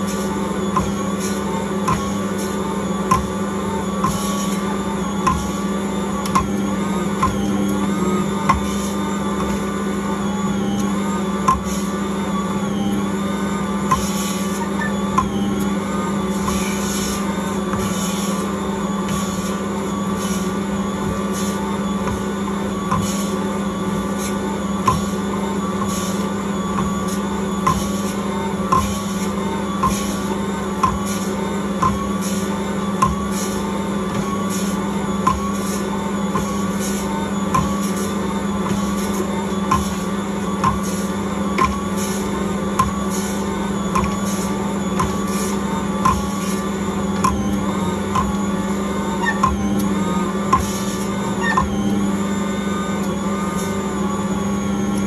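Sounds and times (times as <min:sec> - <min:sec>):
stand mixer motor whining: 0:00.0 - 0:55.0.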